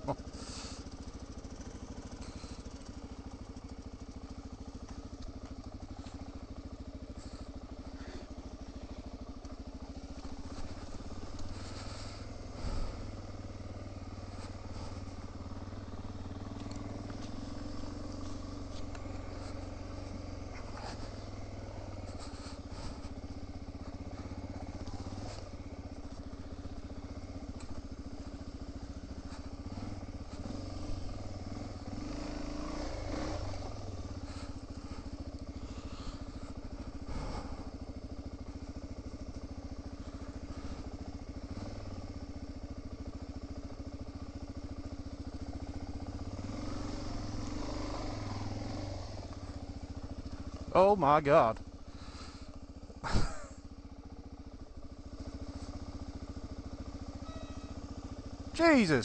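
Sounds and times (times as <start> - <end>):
motorbike engine running: 0.0 - 59.0.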